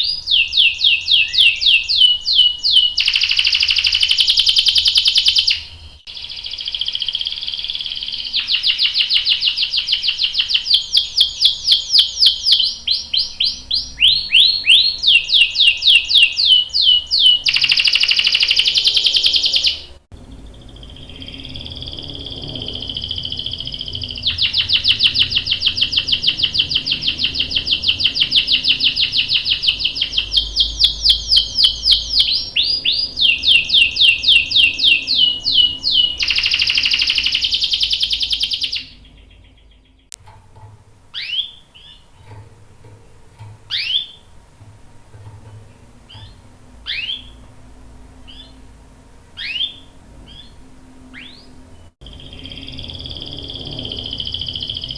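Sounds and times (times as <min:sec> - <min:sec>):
canary singing: 0:00.0 - 0:54.9.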